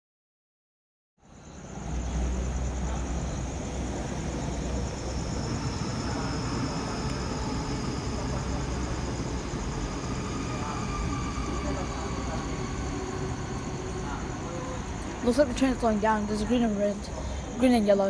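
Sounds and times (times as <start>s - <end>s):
high thin train whine: 1.2s - 18.0s
train low rumble: 1.2s - 18.0s.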